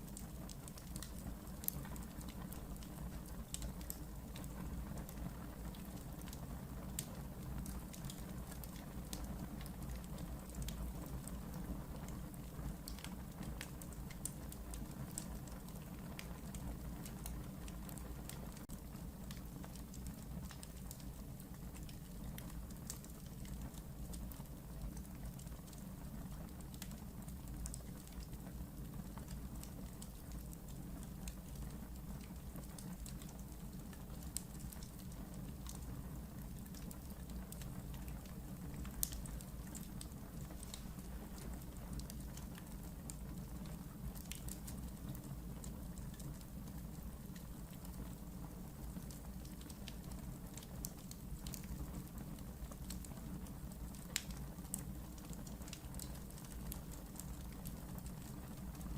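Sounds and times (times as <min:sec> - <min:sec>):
low rumble of flame: 0:00.0 - 0:58.9
wood fire crackling: 0:00.0 - 0:58.9.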